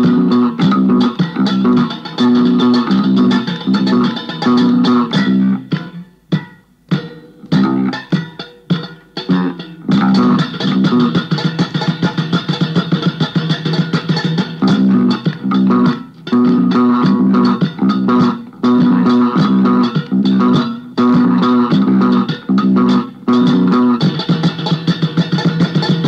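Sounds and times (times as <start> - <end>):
indie rock guitar riff: 0.0 - 26.0.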